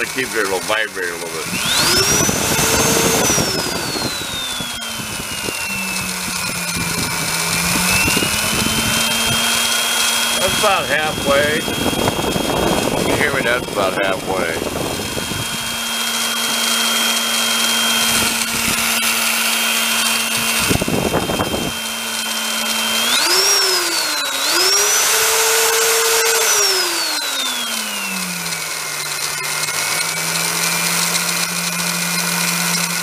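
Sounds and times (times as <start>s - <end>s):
drill motor whining: 0.0s - 33.0s.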